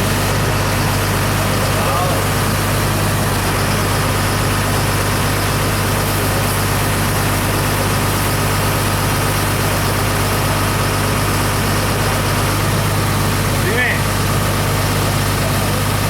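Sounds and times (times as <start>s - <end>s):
generator humming: 0.0s - 16.0s.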